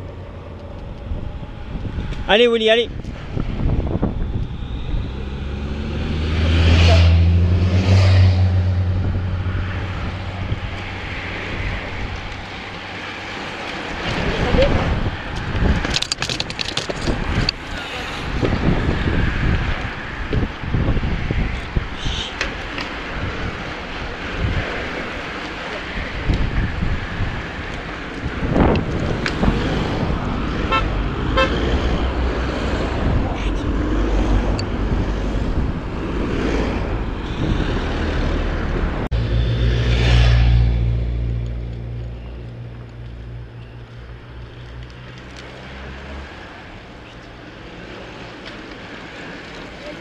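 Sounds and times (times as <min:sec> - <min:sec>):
car engine and tyres: 0:00.0 - 0:50.0
wind buffeting microphone: 0:00.0 - 0:50.0.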